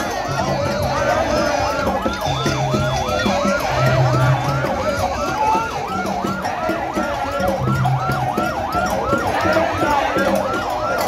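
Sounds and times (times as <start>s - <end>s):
large crowd noise: 0.0s - 11.0s
siren yelping: 0.0s - 11.0s.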